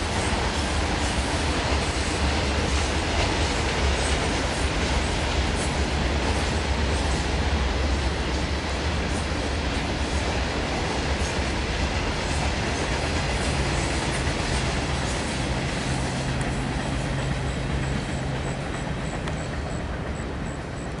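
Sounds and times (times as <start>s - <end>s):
train wheels rumbling and clattering: 0.0s - 21.0s.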